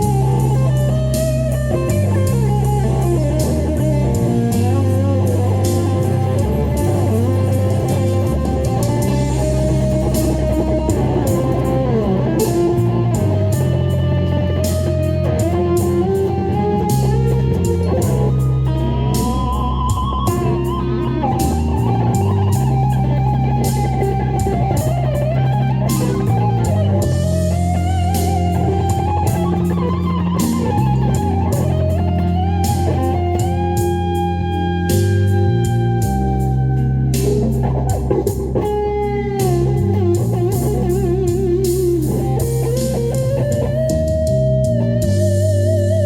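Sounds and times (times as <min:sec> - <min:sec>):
backing track of bass and drums: 0:00.0 - 0:46.0
electric guitar lead melody: 0:00.0 - 0:46.0.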